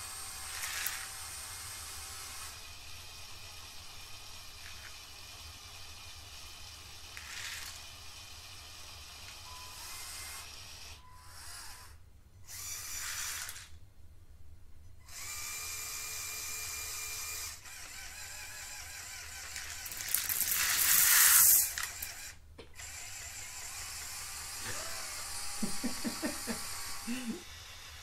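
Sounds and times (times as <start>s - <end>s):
electric motors and plastic gears: 0.0s - 13.8s, 15.0s - 28.0s.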